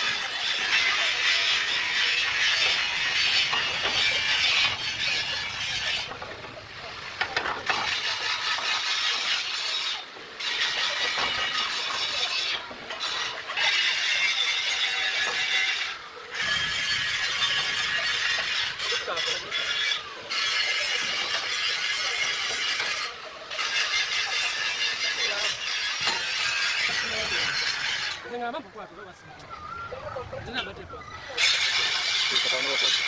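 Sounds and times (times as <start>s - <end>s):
saw grinding through metal: 0.0s - 29.8s, 30.4s - 33.0s.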